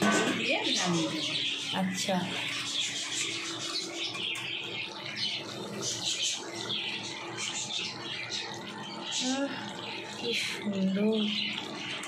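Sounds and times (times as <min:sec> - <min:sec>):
curry bubbling and spitting: 0:00.0 - 0:12.0.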